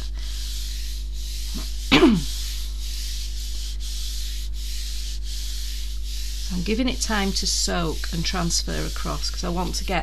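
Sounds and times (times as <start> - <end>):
palm rubbing card: 0.0 - 10.0.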